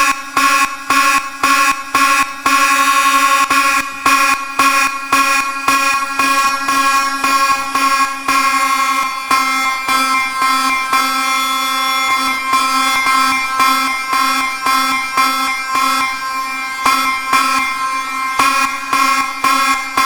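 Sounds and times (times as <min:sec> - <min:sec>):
fire alarm buzzing: 0:00.0 - 0:20.0.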